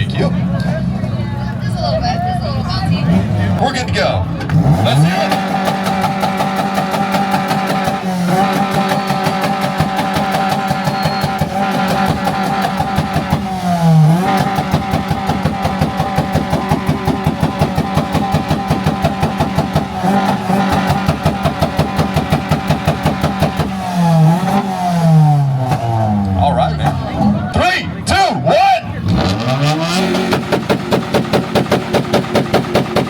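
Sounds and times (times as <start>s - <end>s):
car engine at high revs popping: 2.7s - 28.1s, 28.8s - 33.0s.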